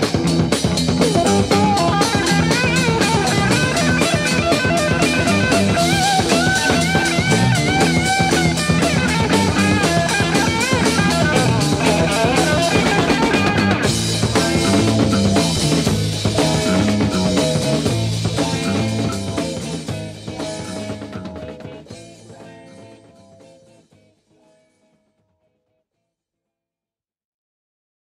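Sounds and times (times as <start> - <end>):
psychedelic rock song: 0.0 - 23.9.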